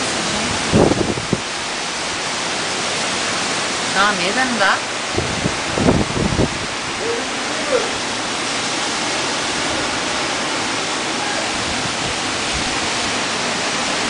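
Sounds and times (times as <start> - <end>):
strong wind: 0.0 - 4.0, 4.8 - 14.0
heavy rain: 0.0 - 14.0.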